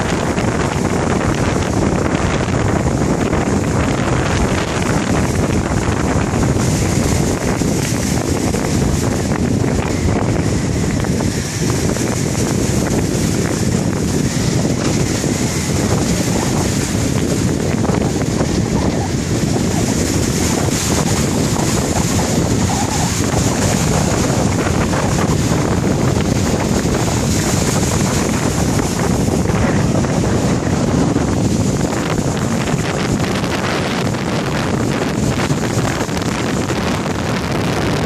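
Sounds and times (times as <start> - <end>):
surf washing over boulders: 0.0 - 38.0
wind buffeting microphone: 0.0 - 38.0.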